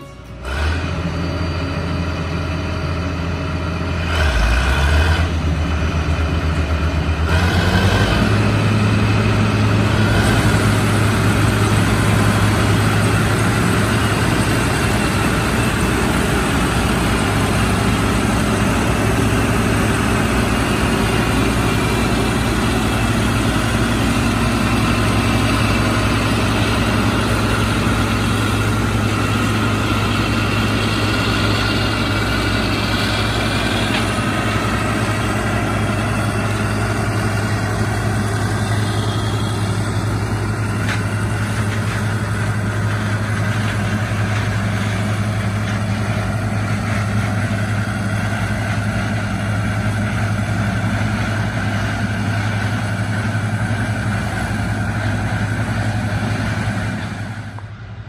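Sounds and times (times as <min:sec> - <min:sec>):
combine diesel engine hum: 0:00.0 - 0:58.0.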